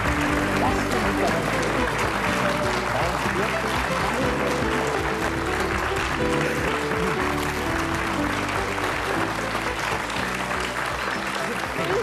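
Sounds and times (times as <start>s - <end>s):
audience applauding: 0.0s - 12.0s
closing theme music: 0.0s - 12.0s.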